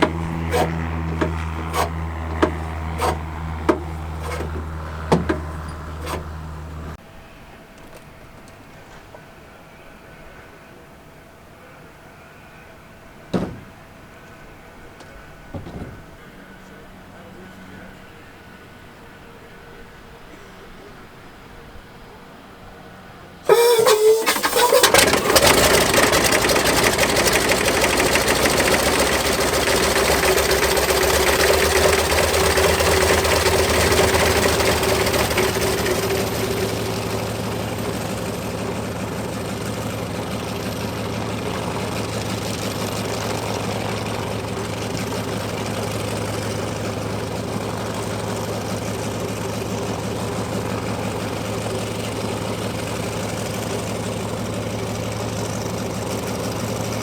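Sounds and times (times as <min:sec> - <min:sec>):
radial aircraft engine running: 0:00.0 - 0:20.9, 0:21.6 - 0:57.0.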